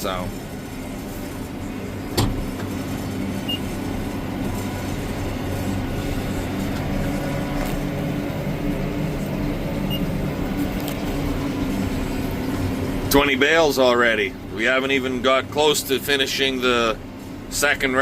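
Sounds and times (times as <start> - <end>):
tractor engine running under load: 0.0 - 17.6.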